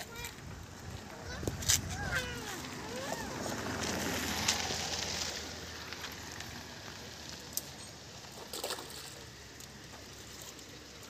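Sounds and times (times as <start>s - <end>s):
faint outdoor hiss: 0.0s - 11.0s
water splashing: 2.0s - 11.0s.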